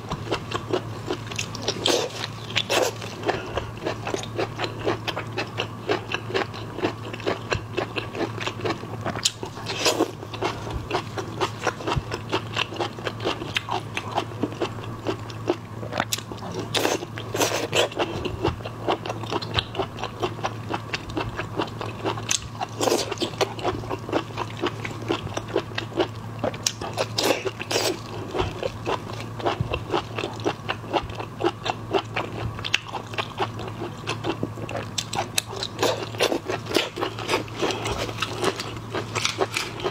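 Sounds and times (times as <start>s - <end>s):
faint low hum: 0.0s - 39.9s
wet chewing and crunching: 0.0s - 39.9s.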